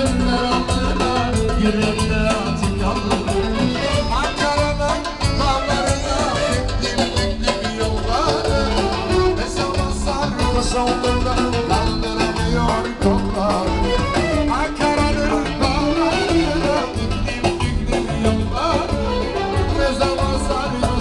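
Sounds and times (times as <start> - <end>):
loud dance music: 0.0 - 21.0.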